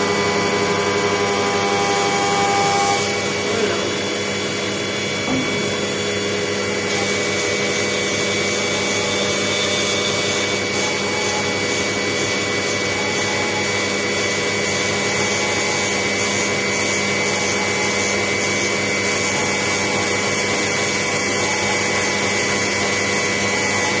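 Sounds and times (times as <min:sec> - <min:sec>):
cnc machine cutting: 0:00.0 - 0:24.0.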